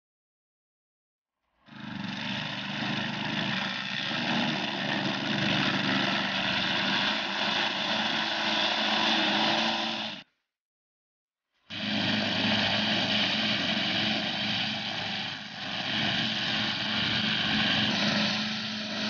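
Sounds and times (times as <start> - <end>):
string trimmer engine running: 1.7 - 10.3, 11.7 - 19.0
trimmer line cutting grass: 1.7 - 10.3, 11.7 - 19.0.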